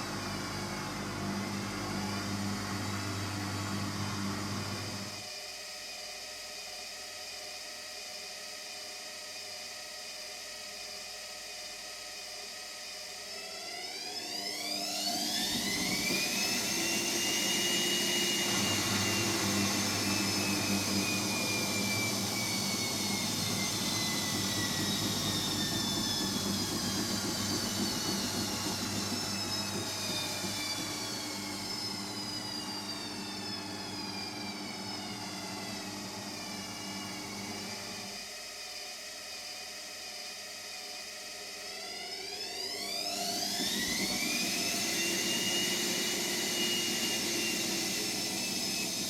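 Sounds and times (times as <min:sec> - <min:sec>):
washing machine spin motor whine: 0:00.0 - 0:49.0.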